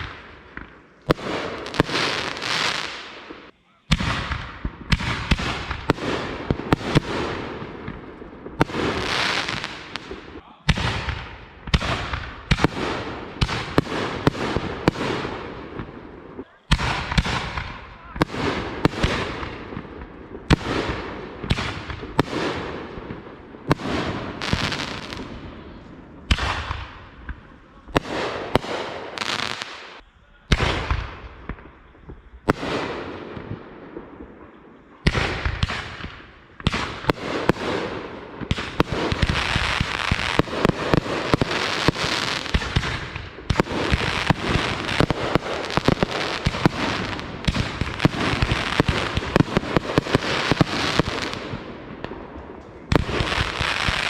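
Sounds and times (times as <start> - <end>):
fireworks bangs and pops: 0.0 - 54.0.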